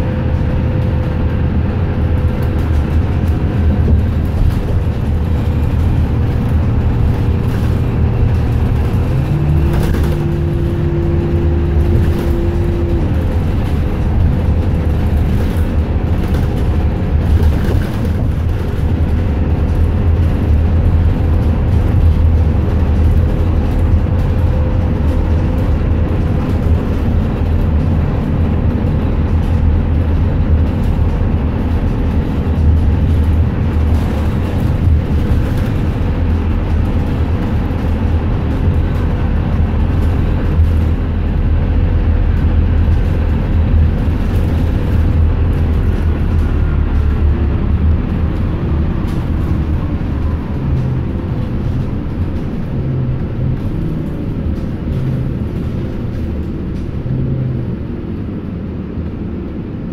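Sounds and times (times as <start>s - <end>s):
bus engine and tyres rumbling: 0.0s - 59.9s.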